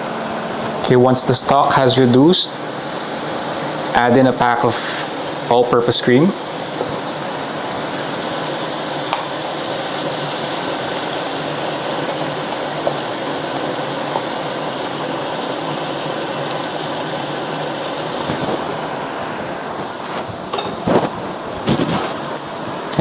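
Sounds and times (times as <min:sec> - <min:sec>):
bubbling sizzle in frying pan: 0:01.9 - 0:23.0.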